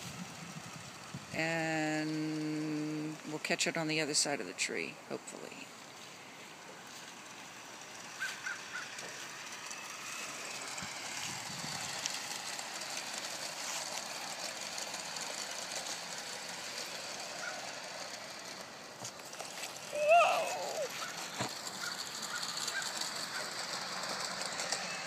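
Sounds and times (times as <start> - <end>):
model train rolling: 0.0 - 25.0.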